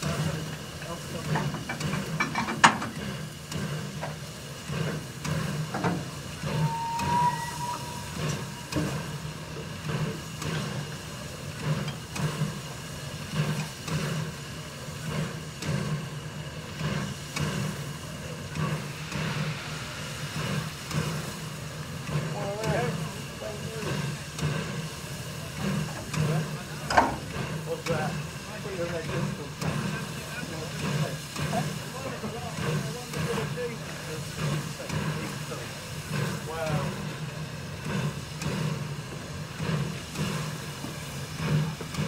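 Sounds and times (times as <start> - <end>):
steam locomotive hissing: 0.0 - 42.0.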